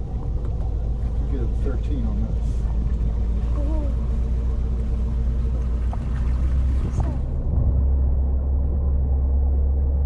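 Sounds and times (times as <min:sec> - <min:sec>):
outboard motor droning: 0:00.0 - 0:10.0.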